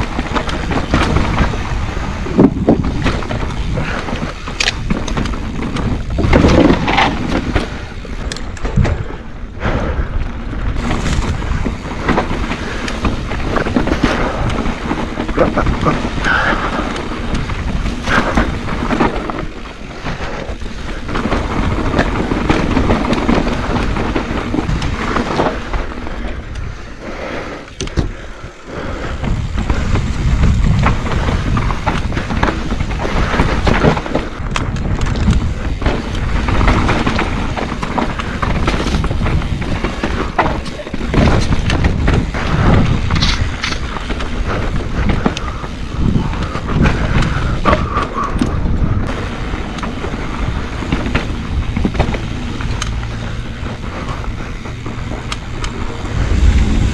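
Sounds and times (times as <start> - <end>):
wind on microphone: 0.0 - 26.7, 27.8 - 56.9
bike knocks and rattles: 0.0 - 27.0, 27.6 - 56.9
tyre noise on dirt: 0.0 - 56.9.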